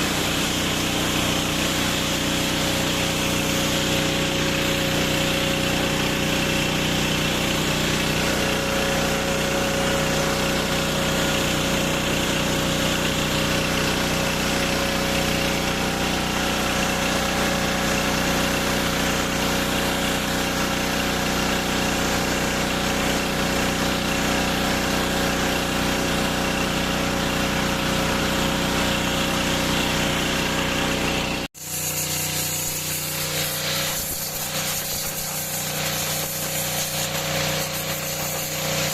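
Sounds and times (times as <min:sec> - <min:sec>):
pressure washer engine running: 0:00.0 - 0:38.9
thin steady running sound: 0:00.0 - 0:38.9.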